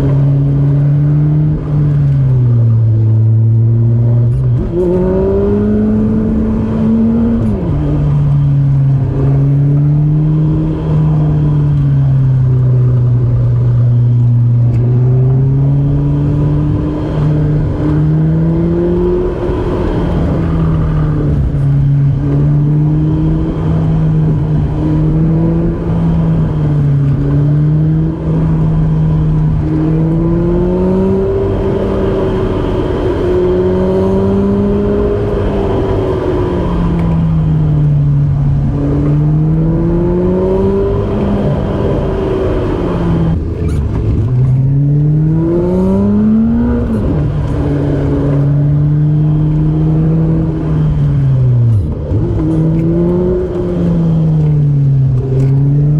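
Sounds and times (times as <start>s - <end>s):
car engine revving while driving: 0.0s - 55.9s.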